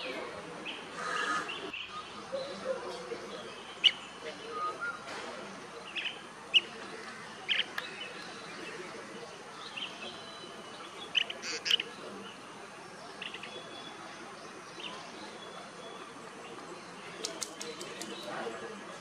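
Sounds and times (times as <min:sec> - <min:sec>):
bird chirping calls: 0:00.0 - 0:19.0.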